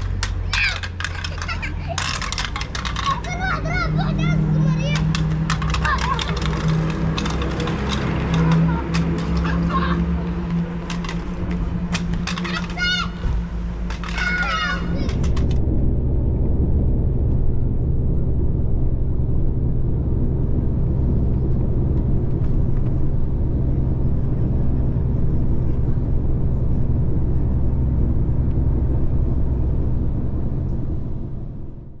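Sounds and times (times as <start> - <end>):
moving vehicle rumble: 0.0 - 32.0.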